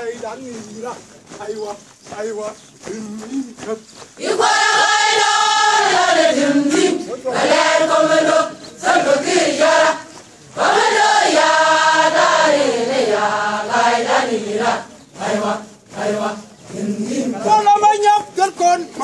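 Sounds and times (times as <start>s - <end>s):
group singing outdoors: 0.0s - 19.0s.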